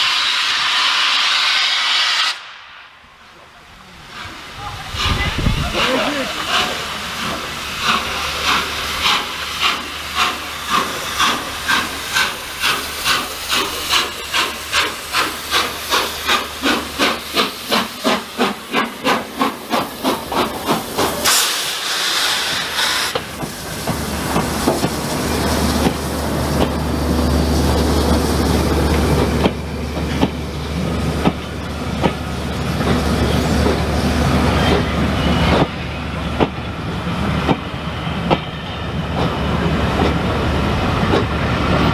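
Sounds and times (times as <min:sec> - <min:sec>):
steam locomotive exhaust beats: 0:00.0 - 0:03.0, 0:04.0 - 0:41.9
loud steam hiss: 0:00.0 - 0:41.9.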